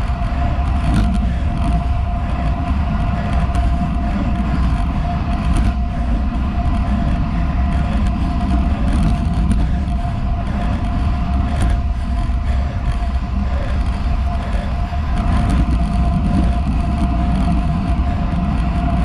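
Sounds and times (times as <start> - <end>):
light ticks from road bumps: 0.0 - 19.0
thin steady whine: 0.0 - 19.0
wind buffeting: 0.0 - 19.0.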